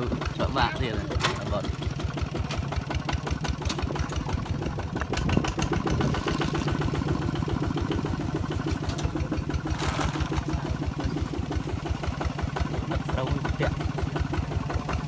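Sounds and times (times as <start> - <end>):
small engine thudding: 0.0 - 15.0.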